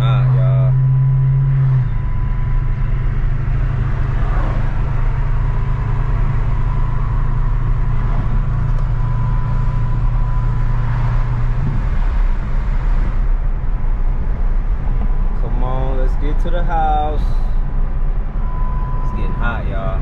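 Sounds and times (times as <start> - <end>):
car engine low drone: 0.0 - 20.0
road noise: 0.0 - 20.0.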